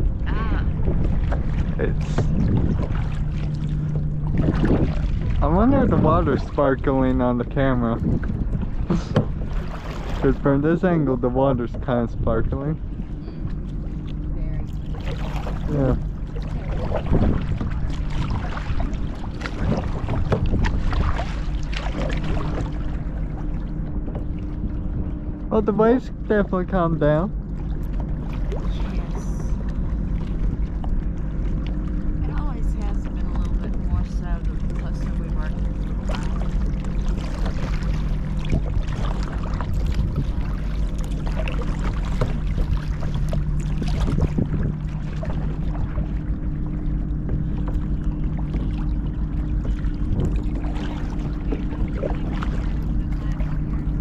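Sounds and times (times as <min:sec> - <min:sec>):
paddle dipping and splashing: 0:00.0 - 0:54.0
water dripping and lapping: 0:00.0 - 0:54.0
wind rumble on microphone: 0:00.0 - 0:54.0.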